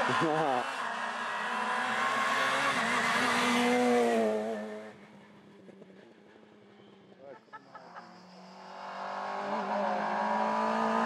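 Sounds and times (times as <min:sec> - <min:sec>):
rally car engine at high revs: 0:00.0 - 0:06.1, 0:07.9 - 0:11.0.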